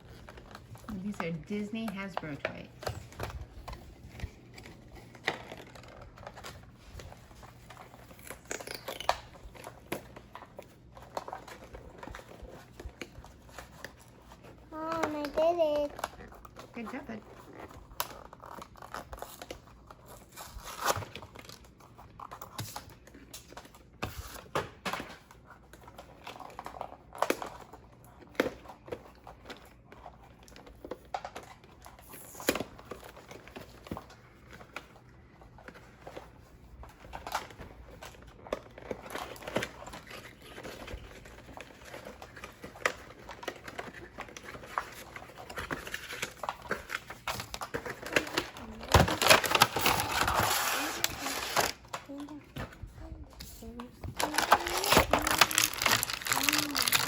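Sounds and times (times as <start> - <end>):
plastic and cardboard crinkling: 0.0 - 57.0.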